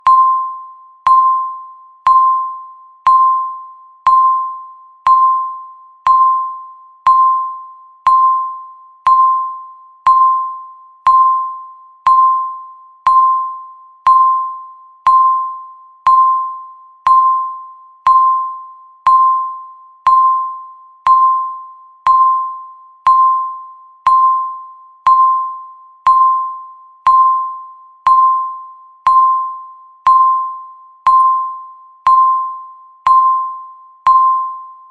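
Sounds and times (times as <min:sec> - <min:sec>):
bell-like timer ding: 0:00.0 - 0:34.9.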